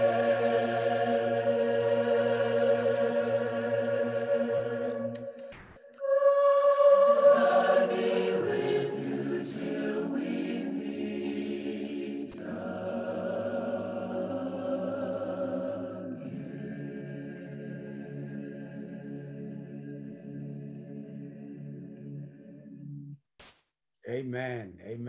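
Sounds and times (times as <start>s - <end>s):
choir singing held chords: 0.0s - 23.2s.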